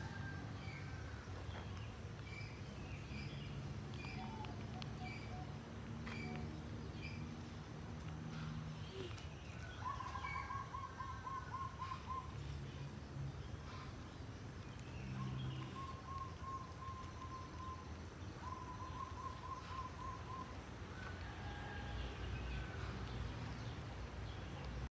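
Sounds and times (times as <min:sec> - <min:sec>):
steady outdoor background noise: 0:00.0 - 0:24.9.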